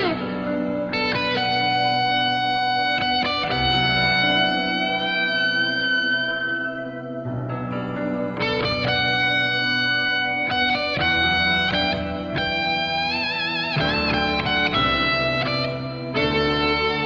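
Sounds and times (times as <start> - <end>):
electric guitar music: 0.0 - 17.0.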